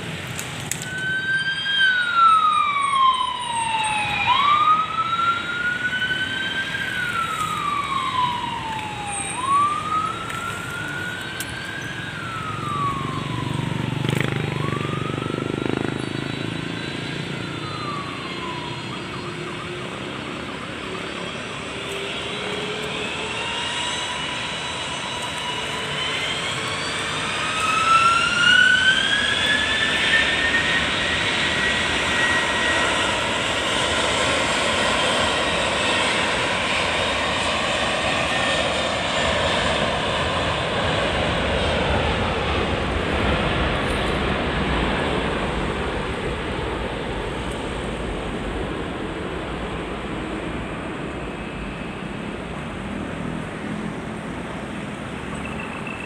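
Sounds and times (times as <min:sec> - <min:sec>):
wailing siren: 0:00.0 - 0:52.8, 0:53.4 - 0:56.0
aircraft engines whining: 0:00.0 - 0:56.0.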